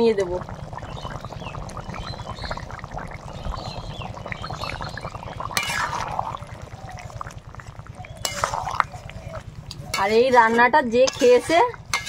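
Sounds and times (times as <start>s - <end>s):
curry bubbling and popping: 0.0s - 12.0s.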